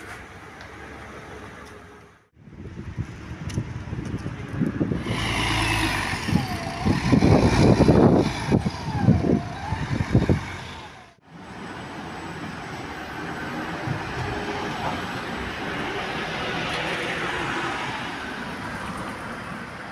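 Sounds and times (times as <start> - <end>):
bus engine rumble: 0.0 - 19.9
traffic noise: 0.0 - 19.9.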